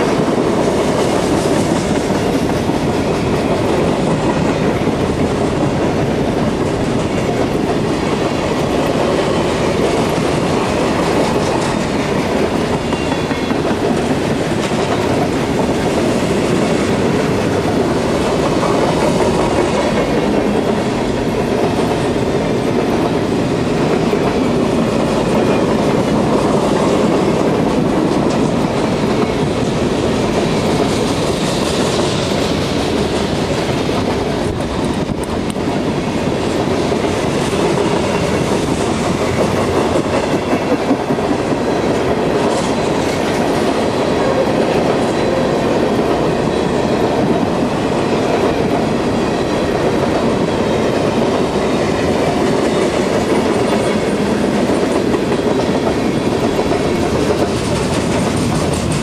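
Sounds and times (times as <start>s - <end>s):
freight train wheels rattling: 0.0s - 59.0s.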